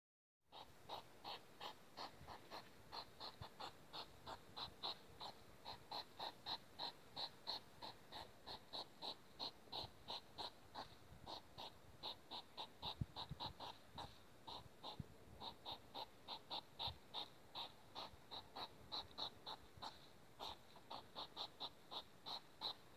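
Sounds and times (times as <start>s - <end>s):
hedgehogs snorting and huffing: 0.5s - 22.9s.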